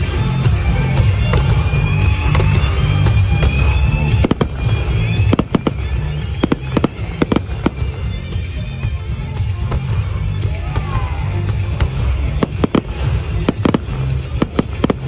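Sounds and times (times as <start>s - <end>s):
music playing: 0.0s - 15.0s
fireworks bangs: 0.9s - 15.0s.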